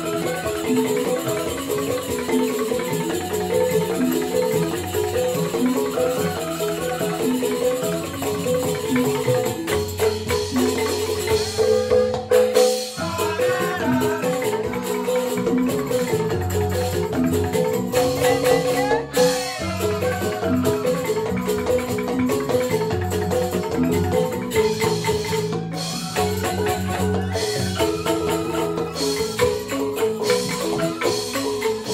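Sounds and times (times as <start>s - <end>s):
bamboo xylophones playing: 0.0s - 31.9s
rattling percussion: 0.0s - 31.9s.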